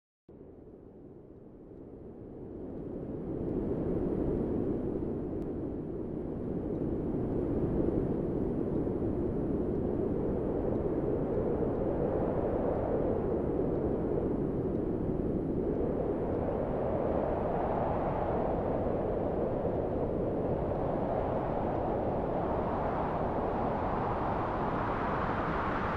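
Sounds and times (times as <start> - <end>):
strong storm wind rushing: 2.5 - 25.9.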